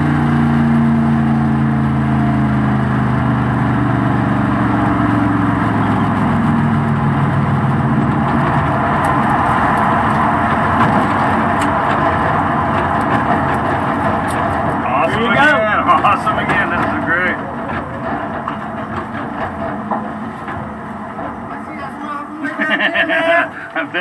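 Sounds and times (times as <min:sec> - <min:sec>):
car engine running: 0:00.0 - 0:24.0
road and wind noise: 0:00.0 - 0:24.0.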